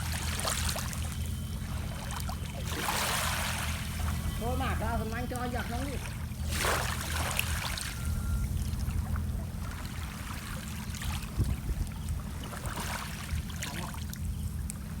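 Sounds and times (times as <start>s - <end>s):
steady low rumble: 0.0s - 15.0s
water splashing and sloshing: 0.0s - 15.0s.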